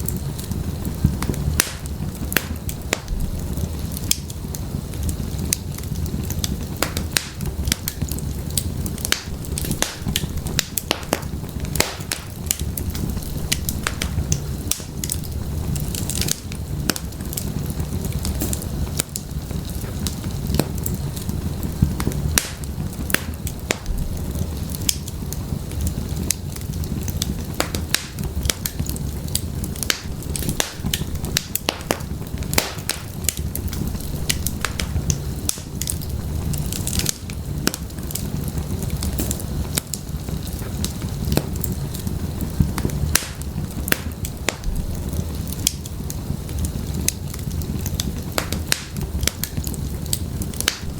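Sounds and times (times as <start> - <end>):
fire crackling and popping: 0.0 - 50.9
low rumble of flames: 0.0 - 50.9.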